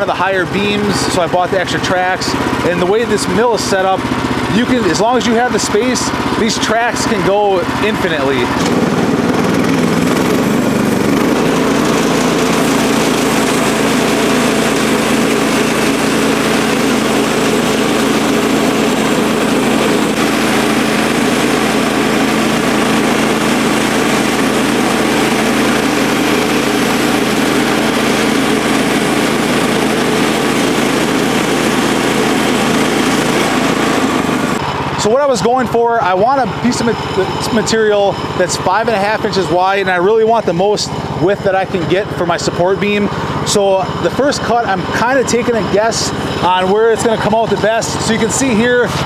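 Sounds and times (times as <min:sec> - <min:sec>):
sawmill engine running under load: 0:00.0 - 0:49.0.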